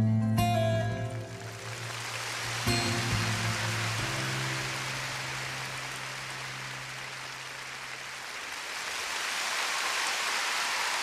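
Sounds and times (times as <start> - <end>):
crowd applauding: 1.0 - 11.0.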